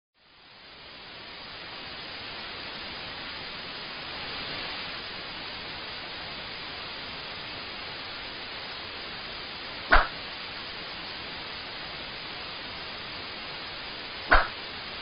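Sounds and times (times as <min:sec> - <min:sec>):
television static hiss: 0:00.2 - 0:15.0.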